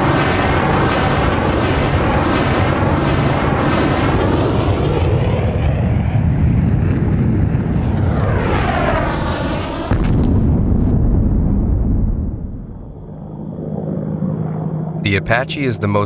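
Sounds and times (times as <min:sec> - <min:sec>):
helicopter engine and rotor: 0:00.0 - 0:10.0, 0:11.6 - 0:16.0
helicopter passing whoosh: 0:00.0 - 0:16.0.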